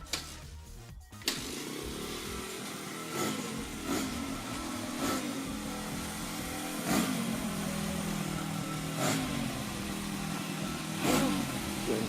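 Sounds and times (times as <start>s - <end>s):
engine idling with surges: 0.7s - 12.0s.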